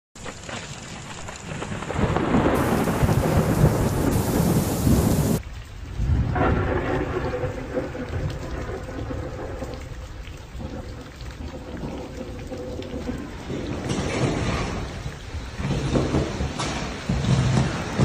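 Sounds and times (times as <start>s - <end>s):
heavy rain: 0.2s - 18.0s
thunder rumbling: 0.7s - 18.0s.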